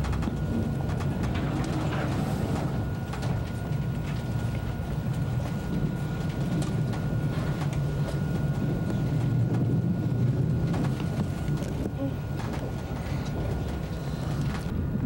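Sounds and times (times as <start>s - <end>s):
faint clicks and rattles: 0.0s - 15.0s
train rumble from inside: 0.0s - 15.0s.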